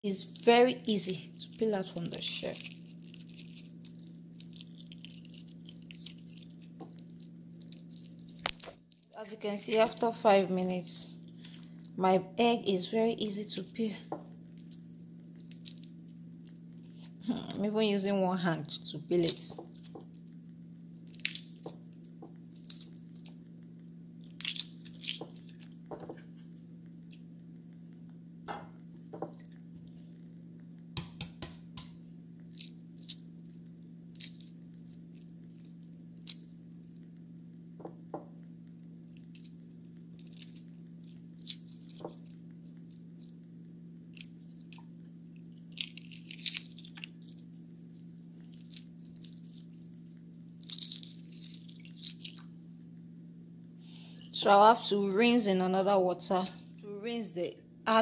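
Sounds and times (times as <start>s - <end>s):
steady low hum: 0.0s - 58.0s
eggshell crackling and snapping: 0.4s - 28.2s, 28.8s - 52.9s, 53.8s - 56.8s.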